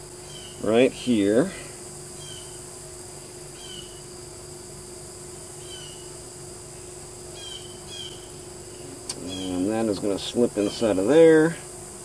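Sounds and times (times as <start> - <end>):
faint steady hum: 0.0 - 12.0
insects chirring: 0.0 - 12.0.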